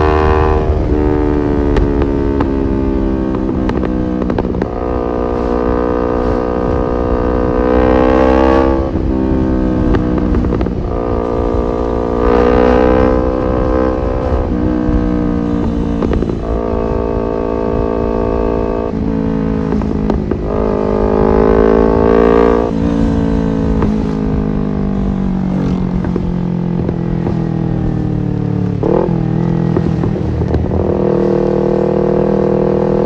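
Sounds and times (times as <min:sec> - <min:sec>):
low wind rumble: 0:00.0 - 0:33.0
motorcycle engine revving: 0:00.0 - 0:33.0.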